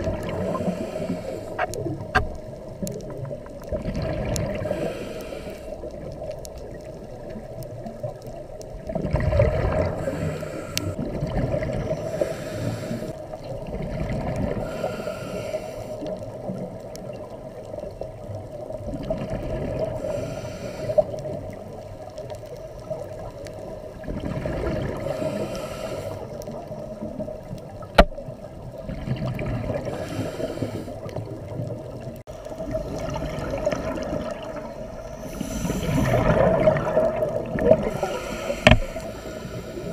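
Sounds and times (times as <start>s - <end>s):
scuba regulator bubbles gurgling: 0.0s - 39.9s
underwater background: 0.0s - 39.9s.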